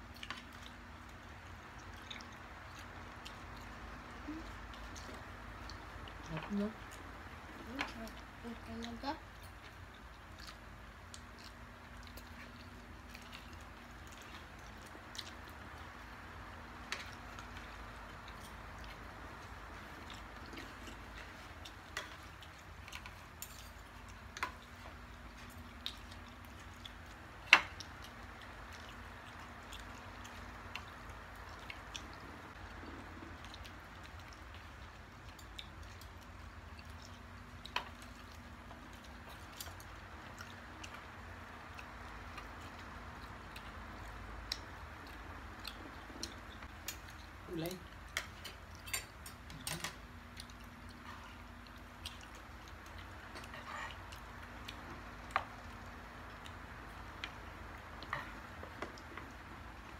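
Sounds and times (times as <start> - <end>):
soft chewing: 0.0 - 59.9.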